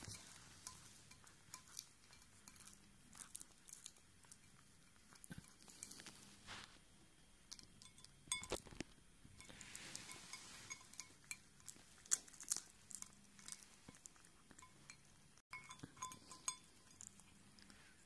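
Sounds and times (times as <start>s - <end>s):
teeth clinking on glass bowl: 0.0s - 6.2s, 7.5s - 8.8s, 9.4s - 17.8s
cat chewing: 0.0s - 6.4s, 8.7s - 18.0s.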